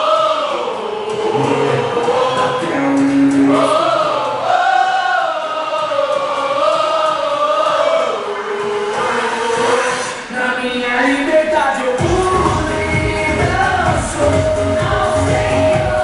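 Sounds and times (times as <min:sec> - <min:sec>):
choir singing worship song: 0:00.0 - 0:10.3, 0:12.0 - 0:16.0.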